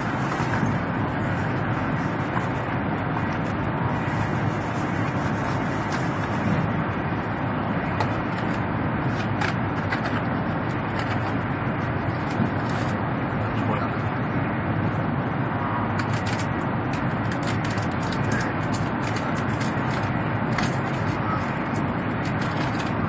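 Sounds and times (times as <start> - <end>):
train cabin running noise: 0.0 - 23.0.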